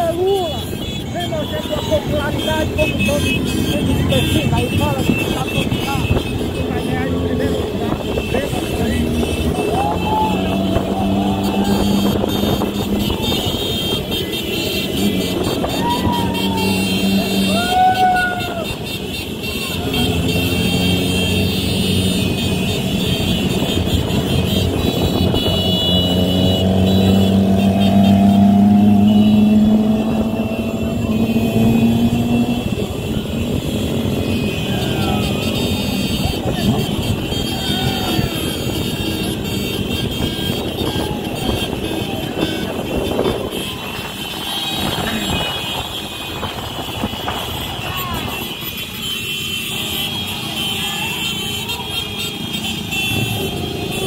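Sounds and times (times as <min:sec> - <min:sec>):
motorcycle engine humming: 0:00.0 - 0:18.0, 0:18.6 - 0:54.0.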